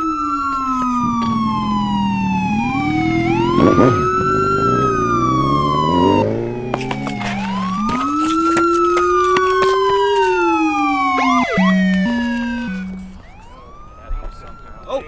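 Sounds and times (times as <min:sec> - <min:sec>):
police siren wailing: 0:00.0 - 0:15.0
two-tone hi-lo siren: 0:00.0 - 0:15.0.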